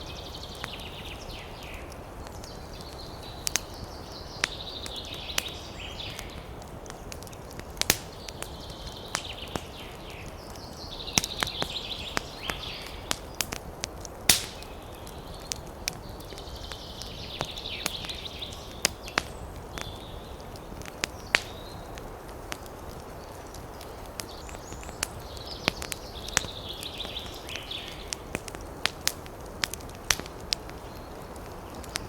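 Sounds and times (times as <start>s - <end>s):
wood fire crackling and popping: 0.0s - 32.0s
fire hissing: 2.0s - 32.0s.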